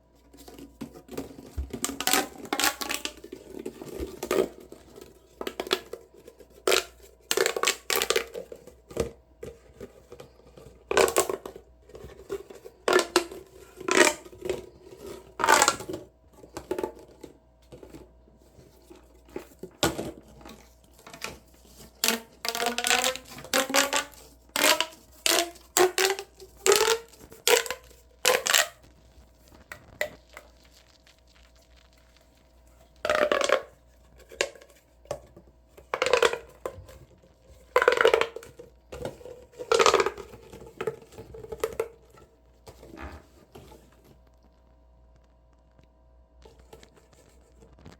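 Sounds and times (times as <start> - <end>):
plastic pop tubes crackling: 0.3 - 44.6.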